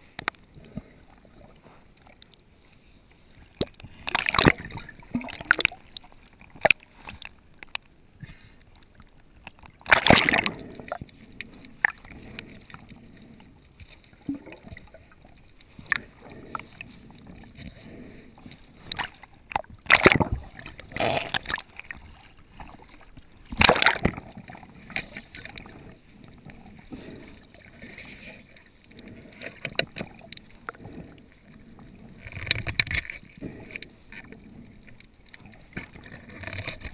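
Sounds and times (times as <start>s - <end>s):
water sloshing and gurgling: 0.0s - 36.9s
water splashes: 0.0s - 36.9s.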